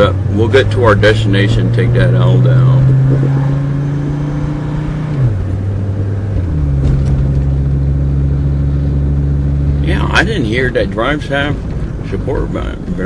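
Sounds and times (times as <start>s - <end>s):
diesel car engine upshifting: 0.0s - 13.0s.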